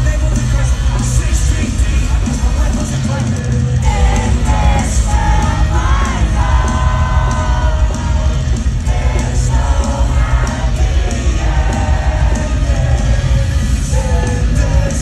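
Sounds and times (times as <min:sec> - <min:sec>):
heavy bass and drums: 0:00.0 - 0:15.0
live rock music over pa: 0:00.0 - 0:15.0
person singing and yelling: 0:00.0 - 0:15.0.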